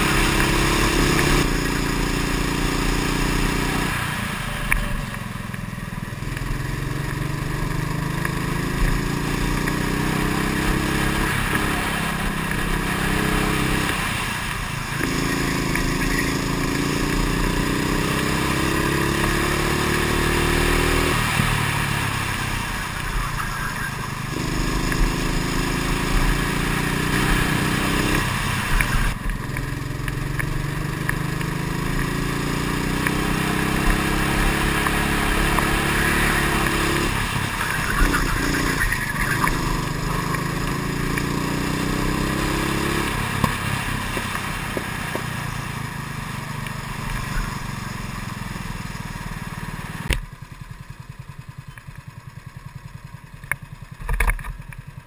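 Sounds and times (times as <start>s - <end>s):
kart engine revving: 0.0s - 50.2s.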